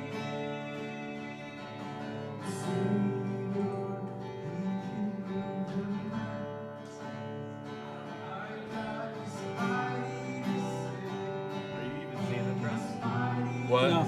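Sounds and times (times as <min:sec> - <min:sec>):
worship band music: 0:00.0 - 0:06.2, 0:08.1 - 0:14.0
strummed acoustic guitar: 0:00.0 - 0:14.0.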